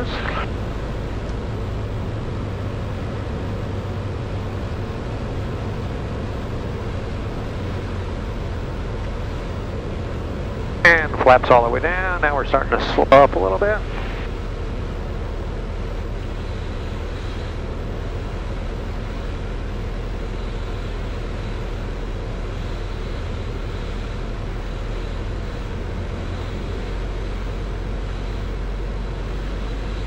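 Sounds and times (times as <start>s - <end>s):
airflow noise: 0.0s - 30.0s
light aircraft engine drone: 0.0s - 30.0s.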